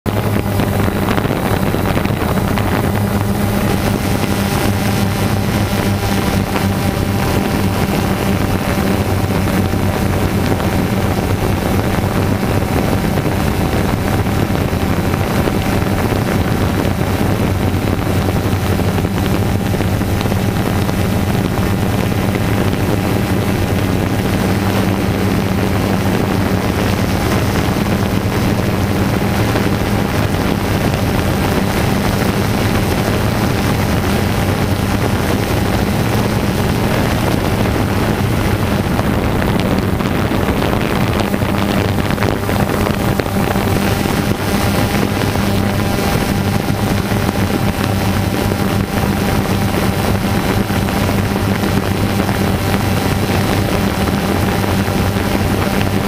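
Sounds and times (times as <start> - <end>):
wind noise on microphone: 0.0 - 56.0
drone motors buzzing: 0.1 - 56.0.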